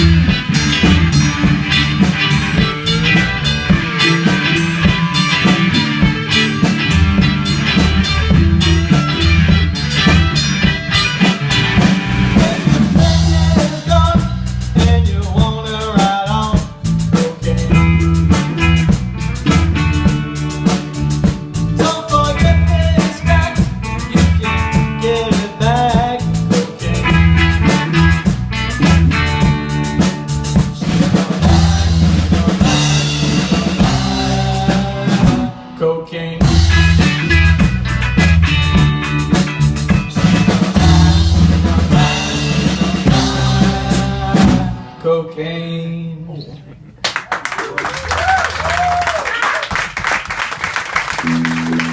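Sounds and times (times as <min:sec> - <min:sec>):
instrumental rock music: 0:00.0 - 0:45.0, 0:51.0 - 0:51.9.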